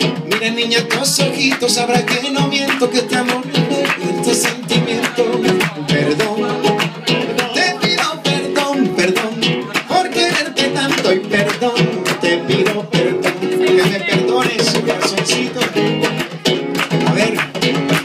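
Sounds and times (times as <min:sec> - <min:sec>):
acoustic guitar strumming: 0:00.0 - 0:18.0
hand percussion: 0:00.0 - 0:18.0.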